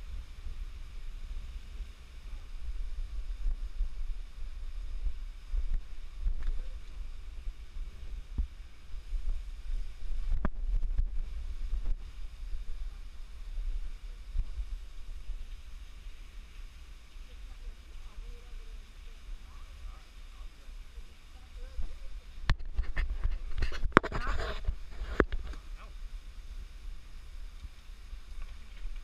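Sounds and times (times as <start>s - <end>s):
wind rumble on microphone: 0.0s - 20.0s, 21.0s - 29.0s.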